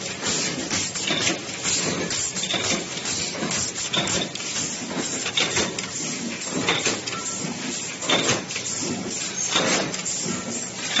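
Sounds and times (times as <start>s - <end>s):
machine running: 0.0s - 11.0s.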